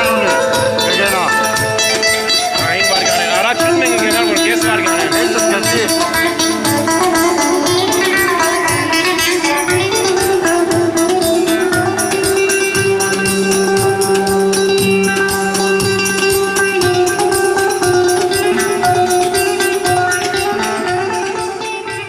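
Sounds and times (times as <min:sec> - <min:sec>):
low drum beat: 0:00.0 - 0:22.0
plucked lute melody: 0:00.0 - 0:22.0.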